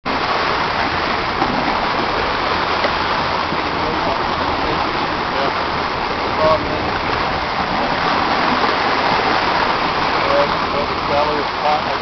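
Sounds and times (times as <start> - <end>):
rushing sea water: 0.0 - 12.0
wind: 0.0 - 12.0.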